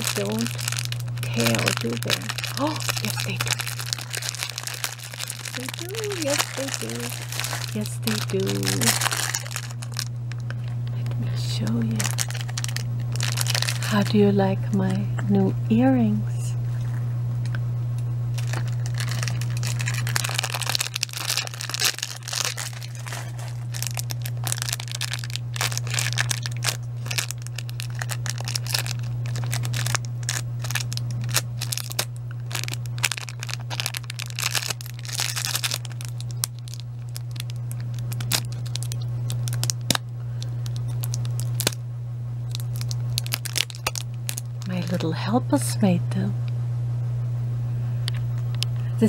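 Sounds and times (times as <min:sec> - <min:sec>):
plastic crinkling and rustling: 0:00.0 - 0:14.1, 0:18.3 - 0:41.8, 0:42.5 - 0:45.1
steady low hum: 0:00.0 - 0:49.0.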